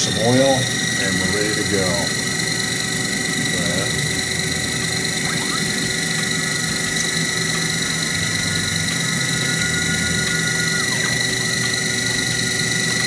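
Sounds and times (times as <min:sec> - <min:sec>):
milling machine motor whining: 0:00.0 - 0:13.0.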